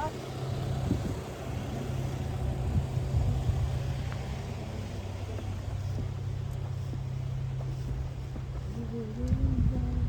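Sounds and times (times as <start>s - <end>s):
car traffic rumble: 0.0s - 10.0s.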